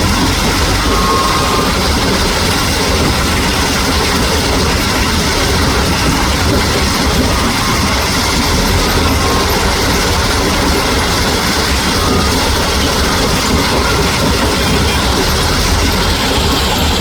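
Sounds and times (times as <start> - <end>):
heavy truck engine rumble: 0.0 - 17.0
noisy rattle: 0.0 - 17.0.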